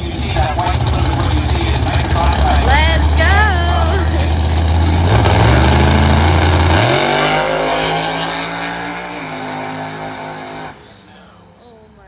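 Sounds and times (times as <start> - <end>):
drag racing car engine at full throttle: 0.0 - 11.2.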